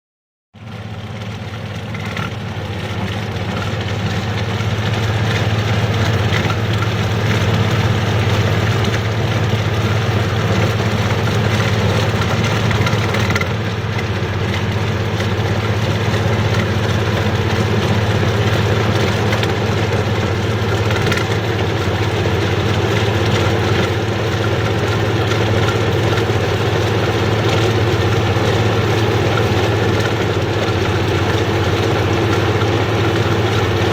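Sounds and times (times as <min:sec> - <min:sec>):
combine harvester engine drone: 0:00.6 - 0:33.9.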